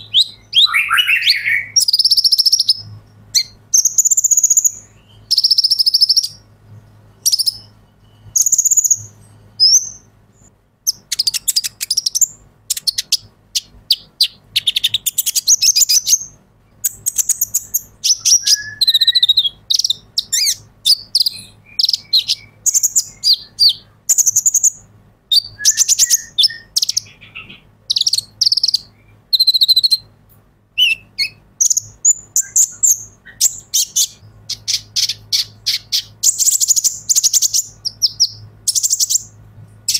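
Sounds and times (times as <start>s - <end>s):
sunbird twittering song: 0.0s - 39.9s.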